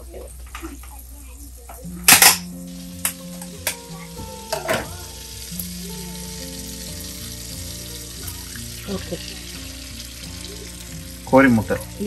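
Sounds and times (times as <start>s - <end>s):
butter sizzling in a frying pan: 0.0s - 12.0s.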